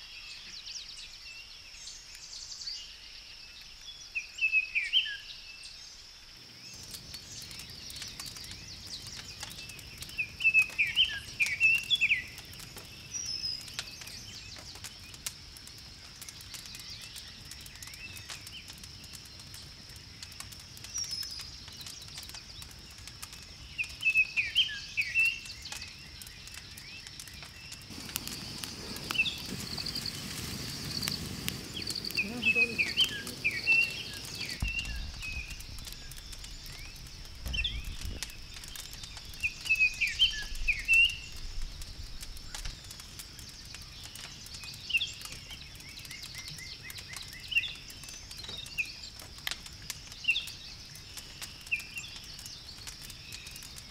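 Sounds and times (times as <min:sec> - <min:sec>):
campfire crackling: 0:00.5 - 0:53.9
birds chirping: 0:06.4 - 0:15.2, 0:15.8 - 0:53.9.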